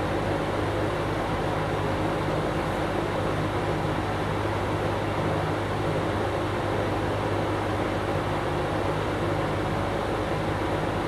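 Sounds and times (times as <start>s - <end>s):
box fan running: 0.0s - 11.0s.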